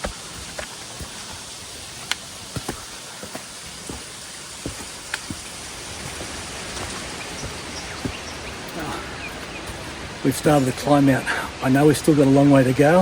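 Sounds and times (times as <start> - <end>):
footsteps on rocky track: 0.0 - 12.5
falling water rushing: 0.0 - 13.0.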